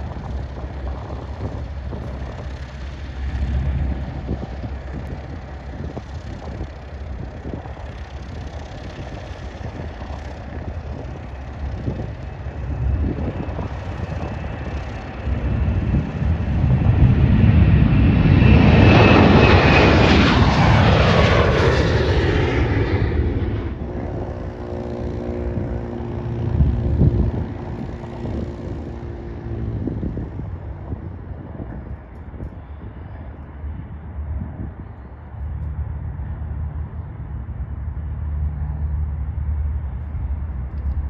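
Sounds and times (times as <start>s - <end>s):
jet airliner taking off: 0.0s - 41.0s.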